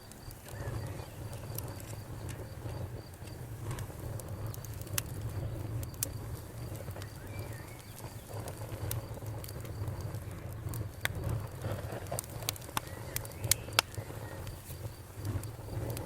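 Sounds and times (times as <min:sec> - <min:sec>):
bonfire crackling: 0:00.0 - 0:16.0
crickets chirping: 0:00.0 - 0:16.0.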